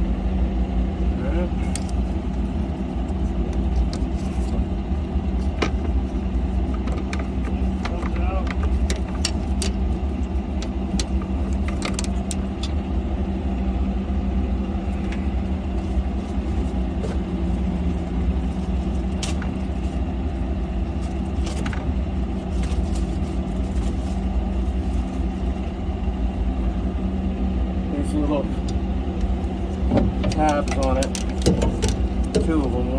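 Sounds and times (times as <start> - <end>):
diesel engine idling: 0.0 - 32.9
light clicks and knocks: 1.1 - 12.8, 14.8 - 25.7, 28.6 - 32.9.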